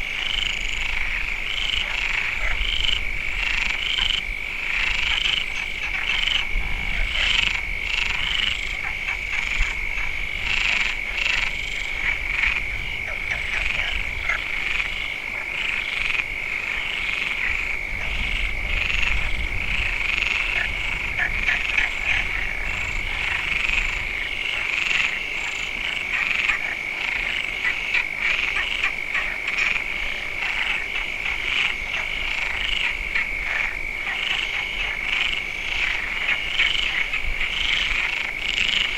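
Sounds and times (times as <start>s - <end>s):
frogs calling: 0.0s - 38.9s.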